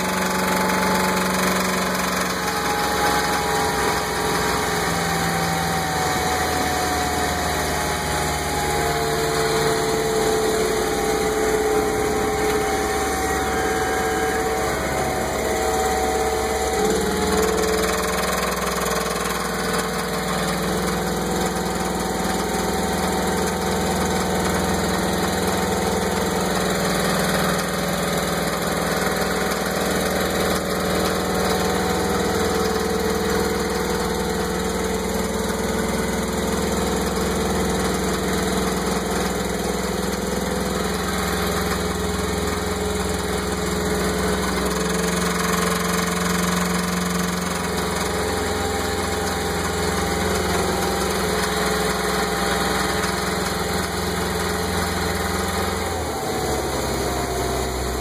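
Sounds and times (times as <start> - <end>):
boat engine running with knock: 0.0 - 58.0.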